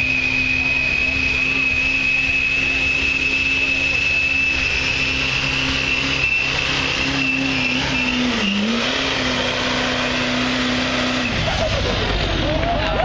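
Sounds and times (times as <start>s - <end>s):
diesel engine at high revs: 0.0s - 13.0s
steady high whine: 0.0s - 13.0s.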